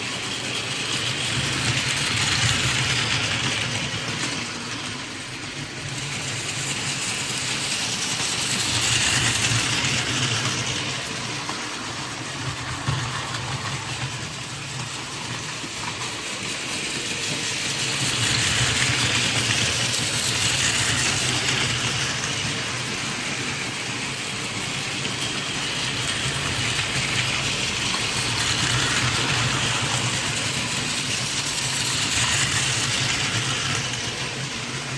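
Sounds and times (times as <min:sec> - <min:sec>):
toy train motor hum: 0:00.0 - 0:34.9
toy train wheel rattle: 0:00.0 - 0:34.9.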